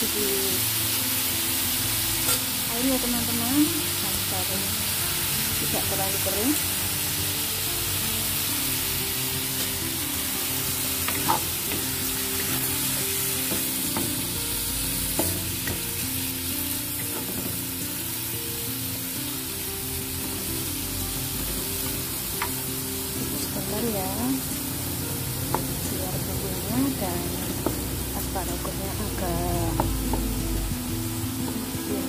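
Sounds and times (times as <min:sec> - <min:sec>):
vegetables sizzling in a pan: 0:00.0 - 0:32.0.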